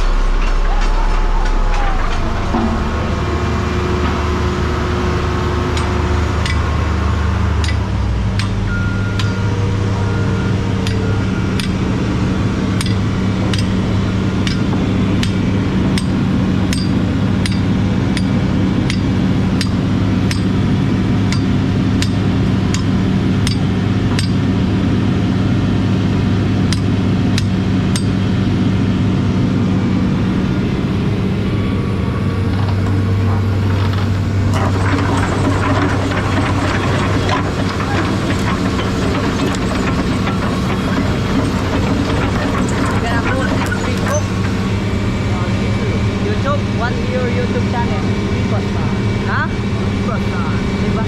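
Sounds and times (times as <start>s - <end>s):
engine humming: 0.0s - 51.0s.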